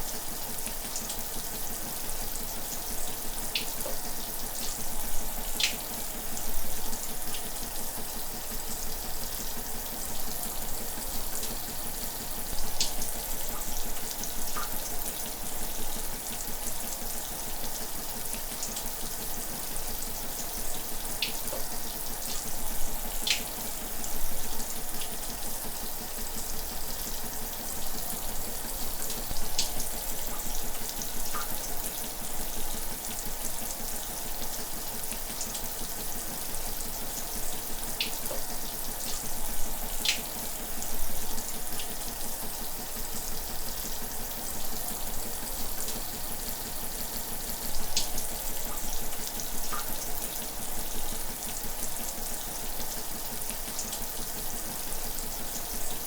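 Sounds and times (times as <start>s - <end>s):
shower running: 0.0s - 56.0s.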